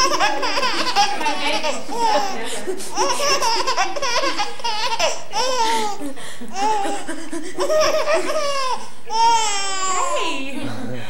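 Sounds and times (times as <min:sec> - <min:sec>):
baby laughing: 0:00.0 - 0:10.2.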